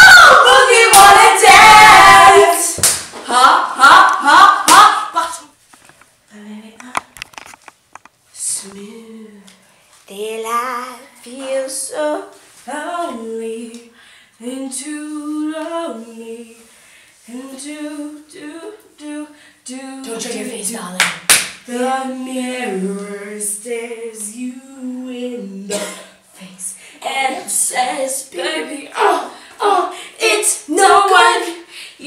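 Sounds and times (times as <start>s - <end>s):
women singing unaccompanied: 0.0s - 5.6s, 8.4s - 9.6s, 11.2s - 20.8s, 21.7s - 32.0s.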